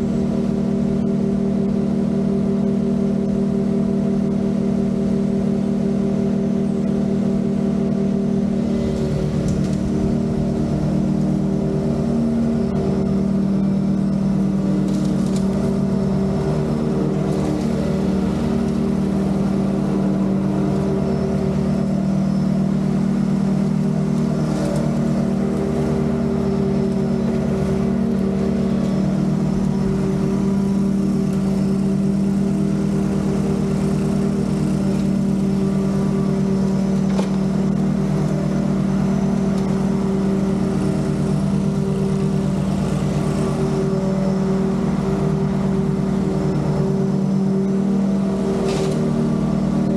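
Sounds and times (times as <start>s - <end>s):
lawn mower engine droning: 0.0s - 49.9s.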